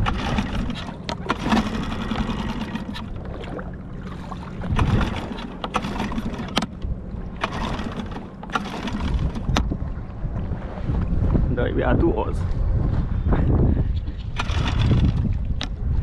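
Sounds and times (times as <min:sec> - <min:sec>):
small waves slapping a dinghy hull: 0:00.0 - 0:16.0
steady low rumble: 0:00.0 - 0:16.0.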